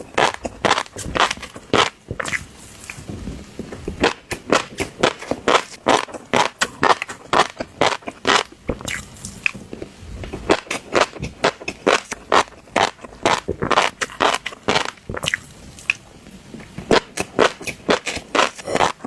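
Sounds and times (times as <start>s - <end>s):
fish roe popping while eaten: 0.0s - 2.6s, 3.9s - 9.6s, 10.2s - 16.0s, 16.8s - 19.0s.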